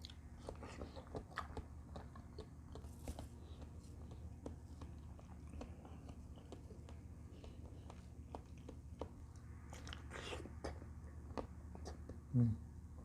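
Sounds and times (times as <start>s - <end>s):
person chewing fruit: 0.0s - 12.3s.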